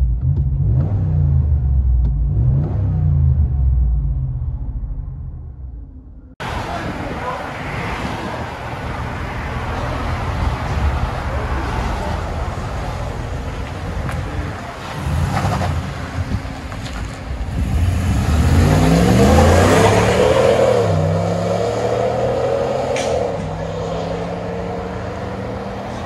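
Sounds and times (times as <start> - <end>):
truck engine rumbling and accelerating: 0.0 - 26.0.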